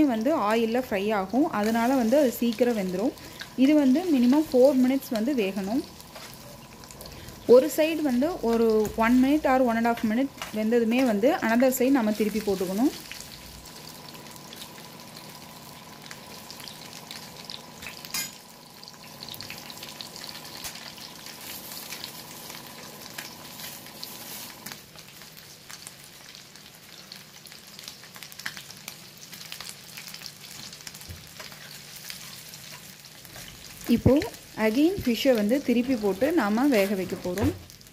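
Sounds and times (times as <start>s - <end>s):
fish sizzling in hot oil: 0.0s - 37.9s.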